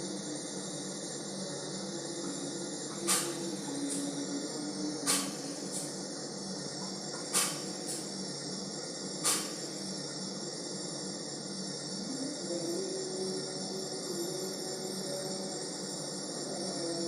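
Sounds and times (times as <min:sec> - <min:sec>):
jet engine hiss and whine: 0:00.0 - 0:17.0.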